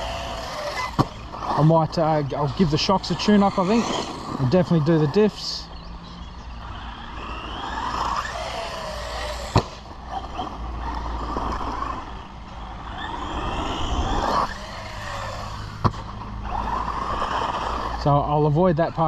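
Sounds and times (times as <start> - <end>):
electric motor whining: 0.0 - 18.3.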